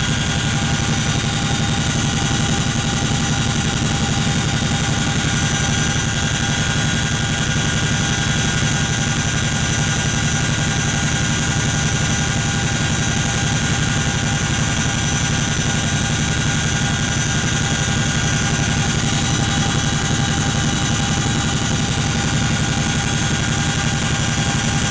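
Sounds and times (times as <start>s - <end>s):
helicopter engine and rotor drone: 0.0s - 24.9s.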